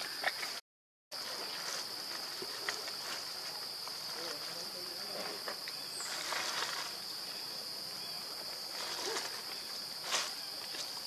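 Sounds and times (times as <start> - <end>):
insects droning: 0.0 - 0.6, 1.2 - 11.0.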